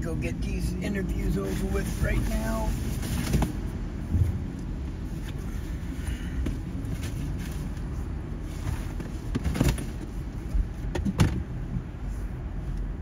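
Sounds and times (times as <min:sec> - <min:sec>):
car rumbling in motion: 0:00.0 - 0:13.0.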